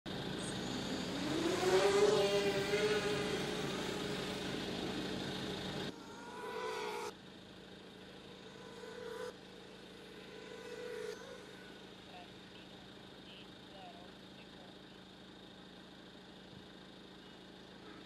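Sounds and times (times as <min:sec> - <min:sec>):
drone motors whining: 0:00.1 - 0:15.1.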